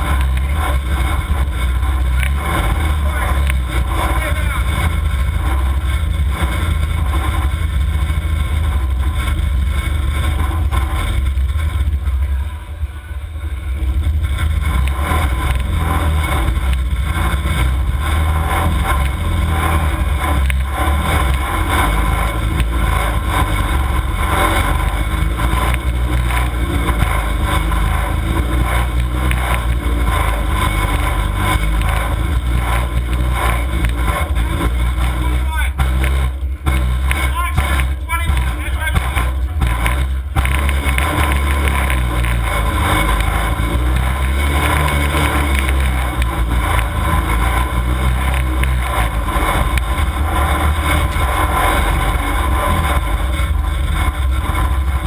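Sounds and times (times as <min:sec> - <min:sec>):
car engine running loud: 0:00.0 - 0:55.0.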